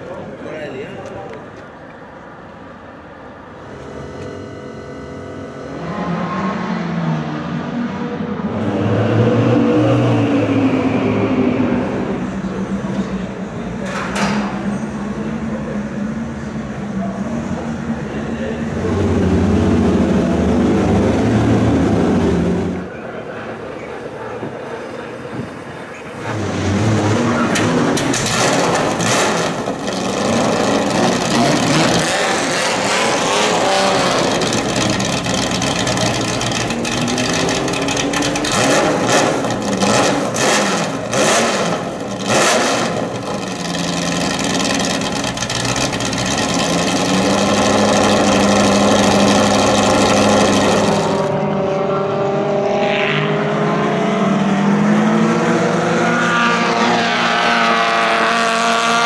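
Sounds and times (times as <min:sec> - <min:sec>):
racing car engines revving: 0:02.5 - 0:59.0.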